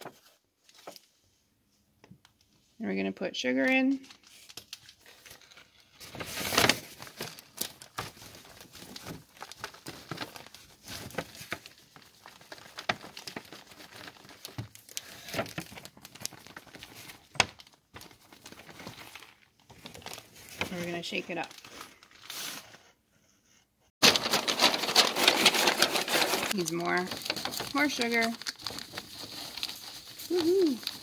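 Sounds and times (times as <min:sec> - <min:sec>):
paper bag crinkling: 0:04.1 - 0:22.6, 0:24.0 - 0:31.0.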